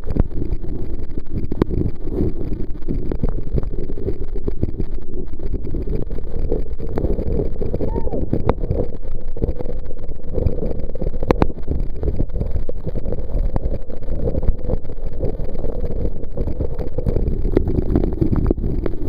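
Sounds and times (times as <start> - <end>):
faint clicks: 0.0 - 19.0.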